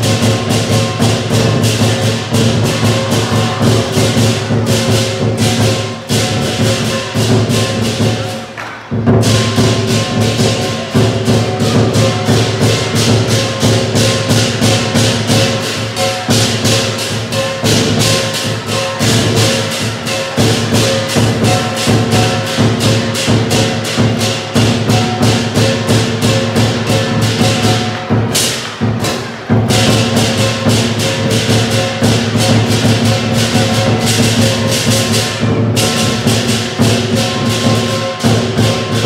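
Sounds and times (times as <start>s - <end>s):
big drum beating: 0.0s - 39.0s
cymbals clashing: 0.0s - 39.0s
gong ringing: 0.0s - 39.0s.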